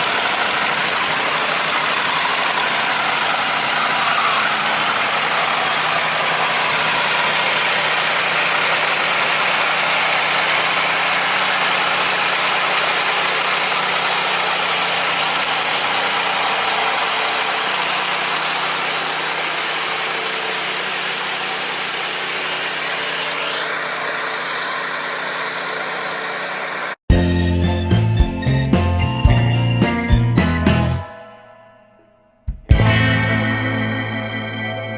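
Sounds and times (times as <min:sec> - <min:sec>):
farm machine engine idling: 0:00.0 - 0:31.0.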